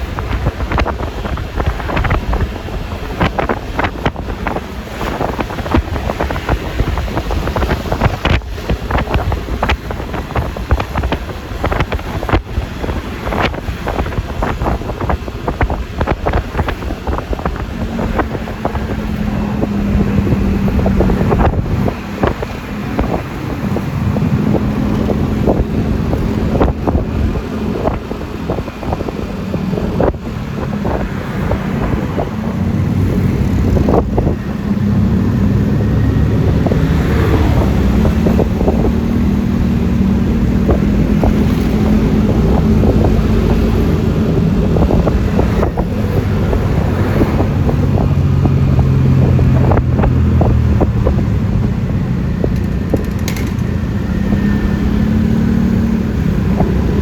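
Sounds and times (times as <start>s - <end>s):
road noise: 0.0s - 57.0s
scooter engine hum: 0.0s - 57.0s
wind buffeting microphone: 0.0s - 57.0s.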